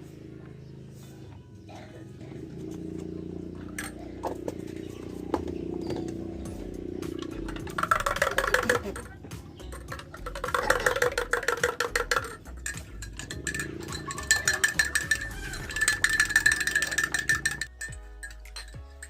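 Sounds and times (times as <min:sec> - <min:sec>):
background music: 0:00.0 - 0:19.0
clinking of small hard objects: 0:03.6 - 0:19.0.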